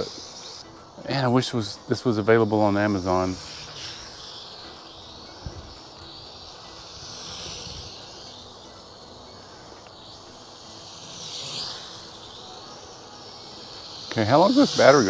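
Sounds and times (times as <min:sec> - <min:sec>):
toy drone motors whining: 0:00.0 - 0:15.0.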